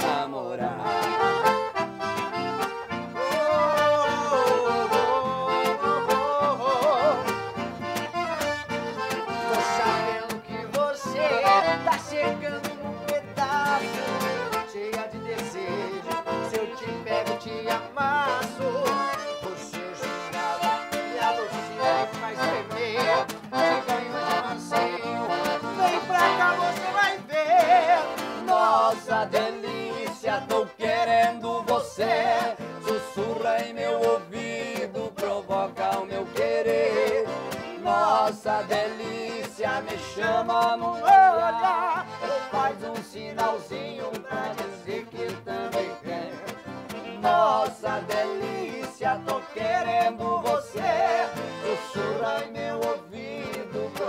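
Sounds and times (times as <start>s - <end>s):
acoustic guitar strumming: 0.0s - 54.0s
piano accordions playing melody: 0.0s - 54.0s.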